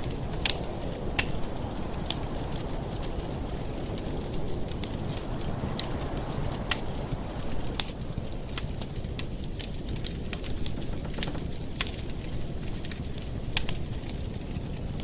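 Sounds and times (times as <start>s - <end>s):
burning wood crackling and popping: 0.0s - 15.0s
low rush of flames: 0.0s - 15.0s.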